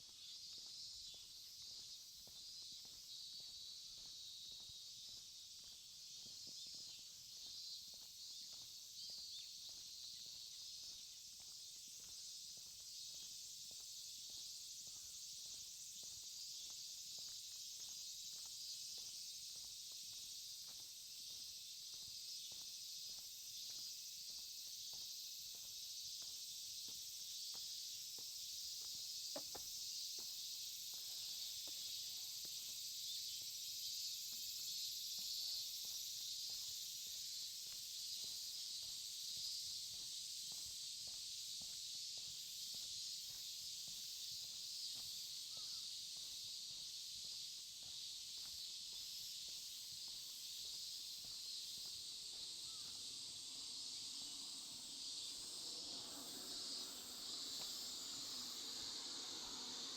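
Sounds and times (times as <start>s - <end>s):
faint footsteps: 0.0s - 33.6s, 34.3s - 54.7s, 55.4s - 59.0s
high-pitched insect chorus: 0.0s - 59.9s.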